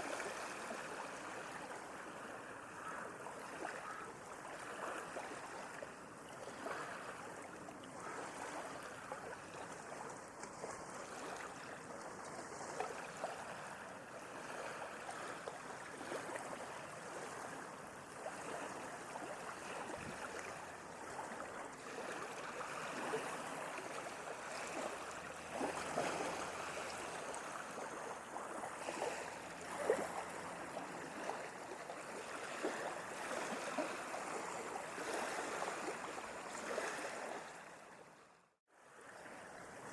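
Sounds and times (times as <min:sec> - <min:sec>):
sea water lapping in small waves: 0:00.0 - 0:39.9.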